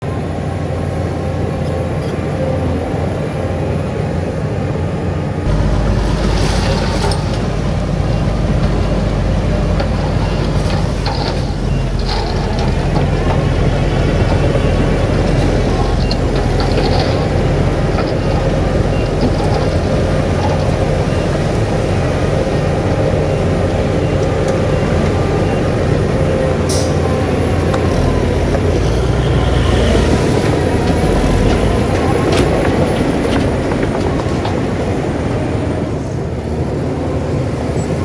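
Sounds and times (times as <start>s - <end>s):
heavy diesel engines running: 0.0s - 38.0s.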